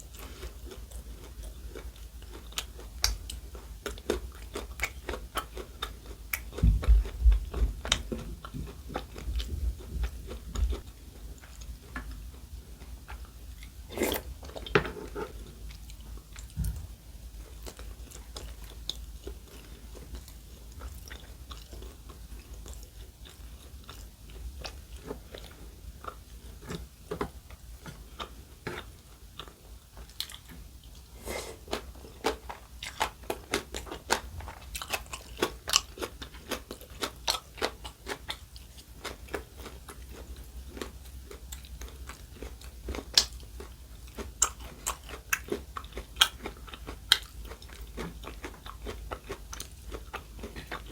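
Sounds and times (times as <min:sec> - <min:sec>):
person chewing and crunching food: 0:00.0 - 0:50.9.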